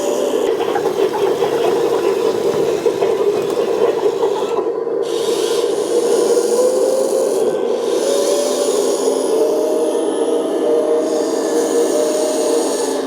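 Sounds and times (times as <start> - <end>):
electric motors whirring: 0.0 - 13.0.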